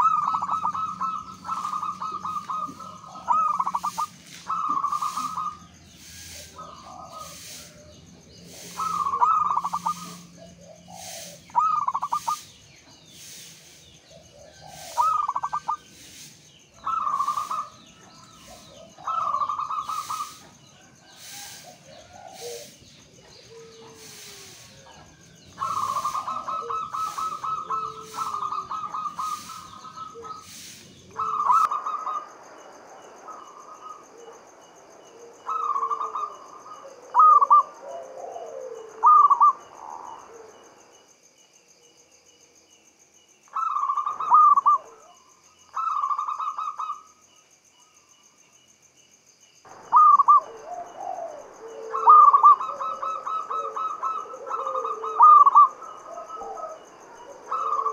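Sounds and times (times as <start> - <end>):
dove cooing trills: 0.0 - 32.5, 35.1 - 40.8, 43.5 - 47.1, 49.7 - 57.9.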